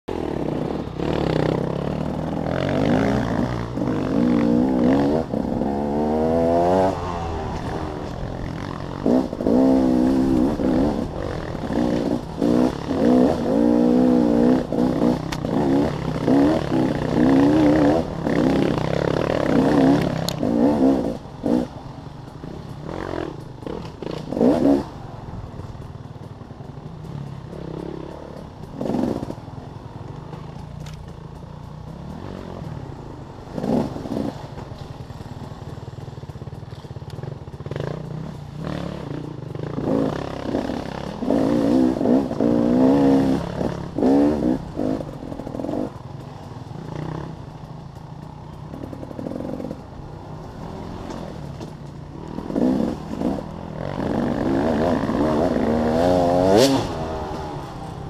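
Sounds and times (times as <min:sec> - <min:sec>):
dirt bike engine revving: 0:00.1 - 0:58.0.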